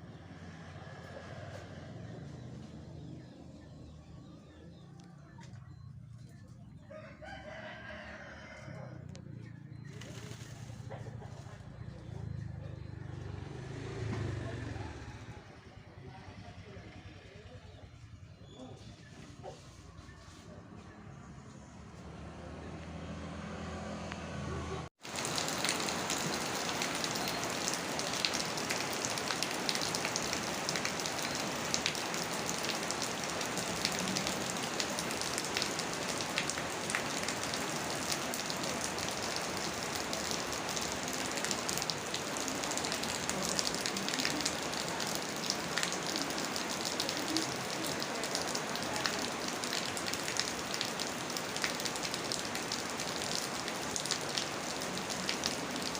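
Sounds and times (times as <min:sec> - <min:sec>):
rain falling steadily: 0:00.1 - 0:18.5, 0:25.0 - 0:55.9.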